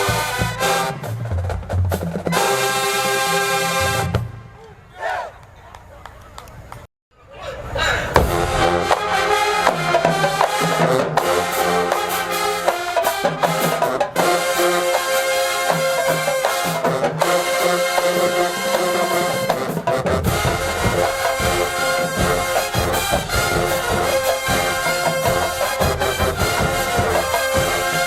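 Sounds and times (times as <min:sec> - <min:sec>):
brass holding loud chords: 0:00.0 - 0:01.4, 0:02.3 - 0:04.6, 0:08.2 - 0:28.0
drumline beat: 0:00.0 - 0:04.6, 0:08.1 - 0:28.0.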